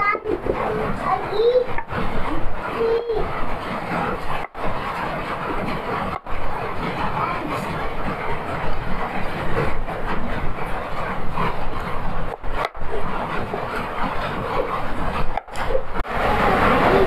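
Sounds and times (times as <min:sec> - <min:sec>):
steady rumbling hiss: 0:00.0 - 0:17.0.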